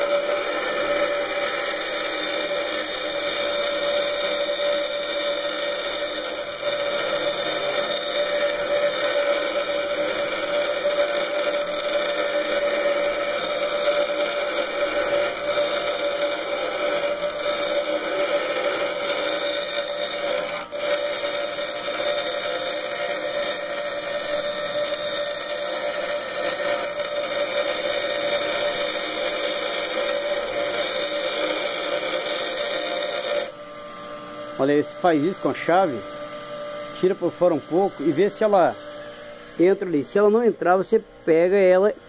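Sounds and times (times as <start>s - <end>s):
metal grinding rasp: 0.0s - 41.9s
bench grinder whining: 0.0s - 42.0s.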